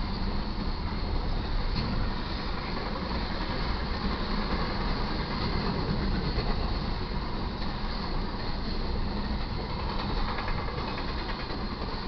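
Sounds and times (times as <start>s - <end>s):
steel wheels rolling on rails: 0.0s - 12.0s.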